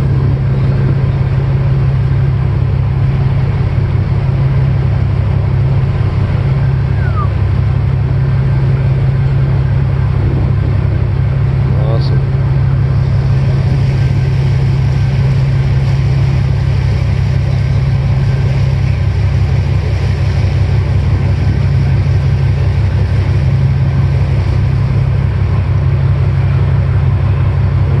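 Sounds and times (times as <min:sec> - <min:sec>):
boat engine low drone: 0:00.0 - 0:28.0.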